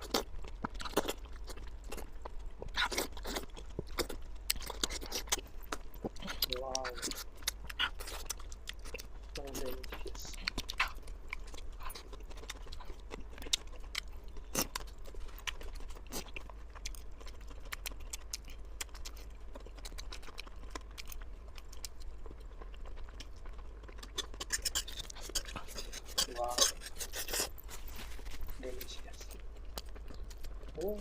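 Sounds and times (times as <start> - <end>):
person chewing and biting food: 0.0 - 31.0.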